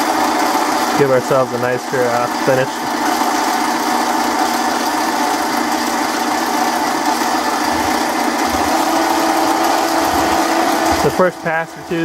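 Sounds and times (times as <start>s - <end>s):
lathe motor whining: 0.0s - 12.0s
cutting tool on metal: 1.6s - 12.0s.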